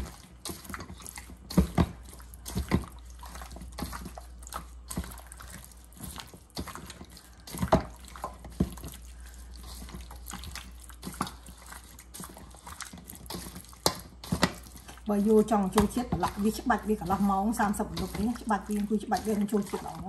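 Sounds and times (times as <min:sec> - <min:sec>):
meat grilling with pops and crackles: 0:00.0 - 0:20.0.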